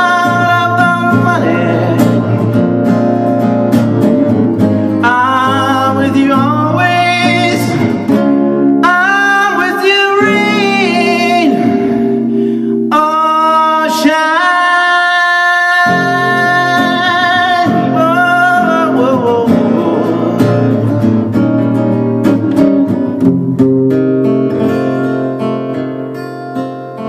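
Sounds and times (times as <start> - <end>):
strummed acoustic guitar: 0.0 - 27.0.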